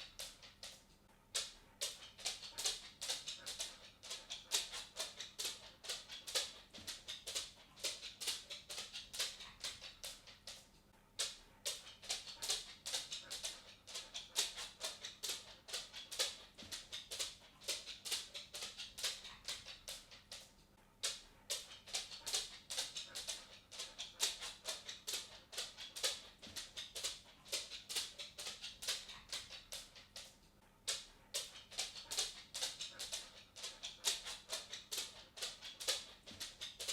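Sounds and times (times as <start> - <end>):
dog claws clicking on wooden floor: 0.0 - 36.9.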